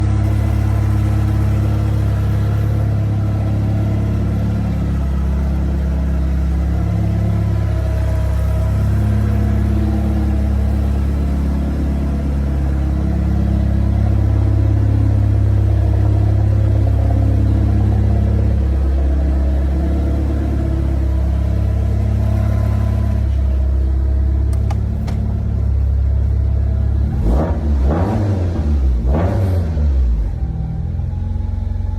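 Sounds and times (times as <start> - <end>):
car engine running near idle: 0.0 - 31.9.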